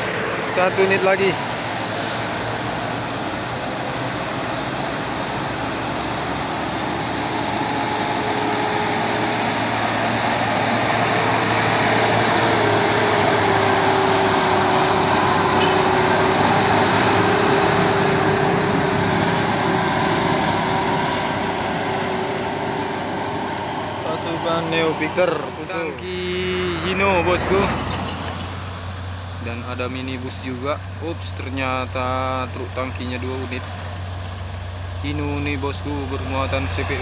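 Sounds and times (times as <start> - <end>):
truck driving past: 0.0 - 37.0.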